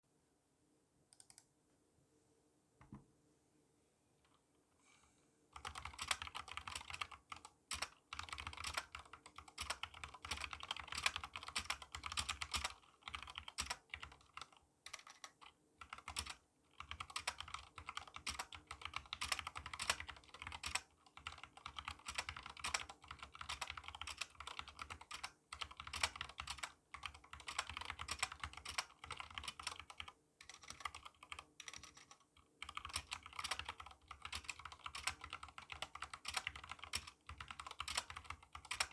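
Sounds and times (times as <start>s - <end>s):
fast typing on mechanical keyboard: 5.6s - 38.9s.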